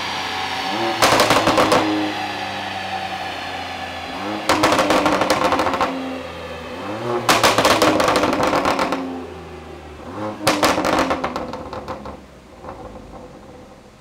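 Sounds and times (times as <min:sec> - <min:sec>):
car engine idling: 0:00.0 - 0:14.0
car engine revving: 0:00.0 - 0:14.0.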